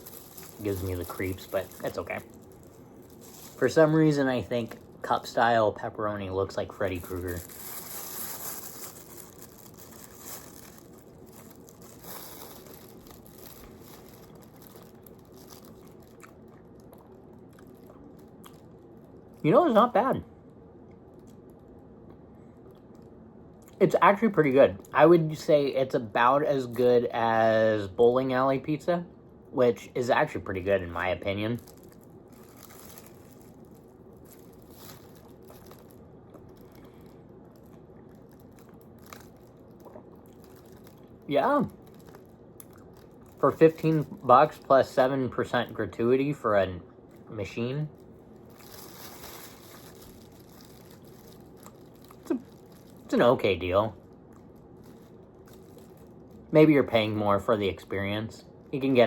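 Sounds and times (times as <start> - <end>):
crinkling and handling noises: 0.0 - 20.2, 29.8 - 57.3
low room hum: 0.0 - 59.0.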